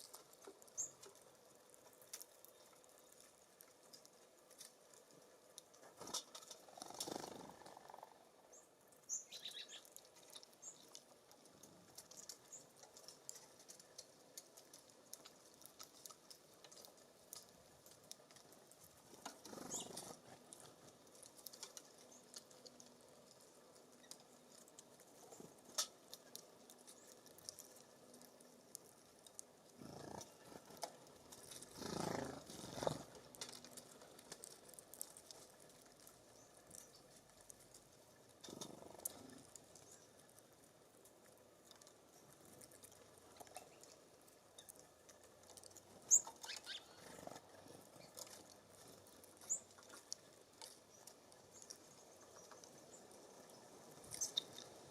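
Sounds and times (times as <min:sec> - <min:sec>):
birds pecking on feeder: 0:00.0 - 0:54.9.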